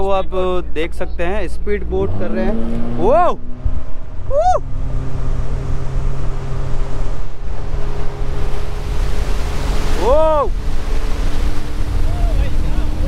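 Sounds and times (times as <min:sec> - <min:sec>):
outboard motor humming: 0:00.0 - 0:13.0
water rushing off hull: 0:01.6 - 0:13.0
wind on microphone: 0:01.8 - 0:13.0.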